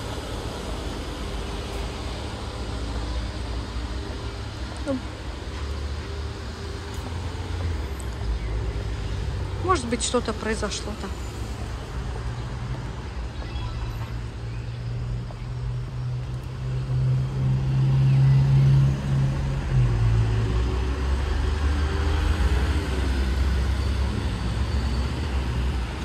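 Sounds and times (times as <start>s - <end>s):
car engines passing: 0.0s - 26.0s
low engine drone: 0.0s - 26.0s.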